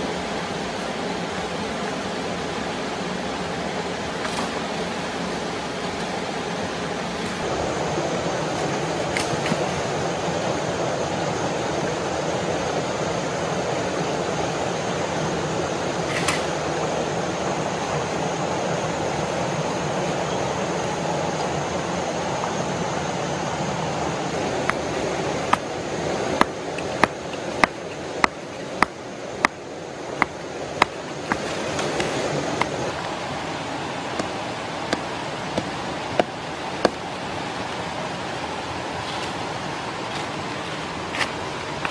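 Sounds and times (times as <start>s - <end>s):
steady rushing noise: 0.0s - 41.9s.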